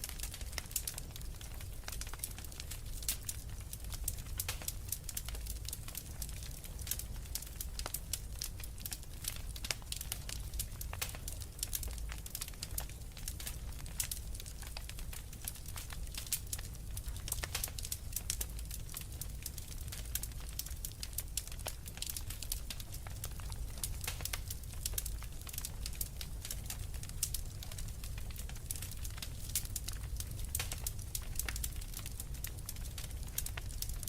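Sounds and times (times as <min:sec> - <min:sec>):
logs crackling and popping: 0:00.0 - 0:34.0
low rumble of flames: 0:00.0 - 0:34.0.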